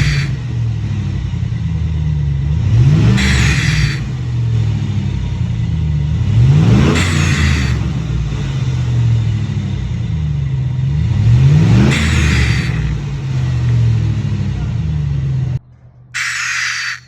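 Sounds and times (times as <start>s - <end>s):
engine revving: 0.0s - 15.6s, 16.2s - 17.0s.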